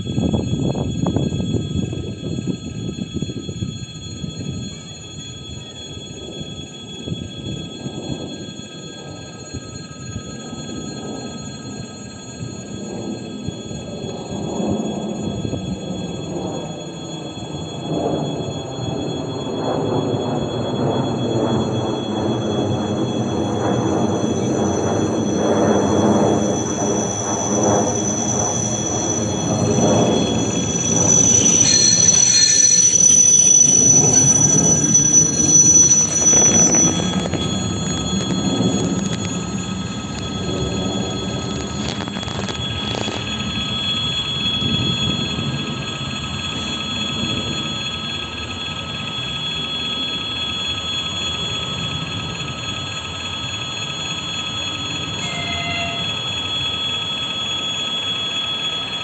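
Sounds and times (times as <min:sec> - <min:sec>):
electric train rumbling: 0:00.0 - 0:59.0
high drone of held tones: 0:00.0 - 0:59.0
high-pitched squeal: 0:00.0 - 0:59.0.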